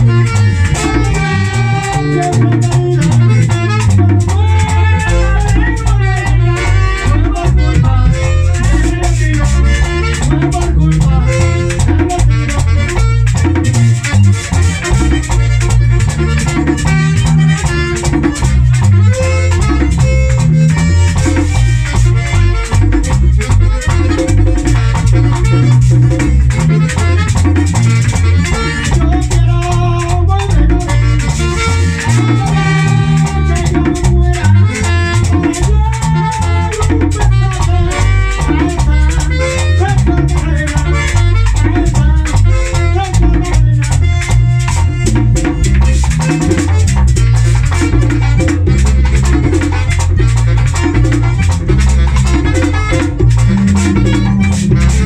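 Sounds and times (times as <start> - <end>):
bass: 0.0 - 55.0
button accordion melody: 0.0 - 55.0
saxophone: 0.0 - 55.0
tambora drum and congas: 0.0 - 55.0.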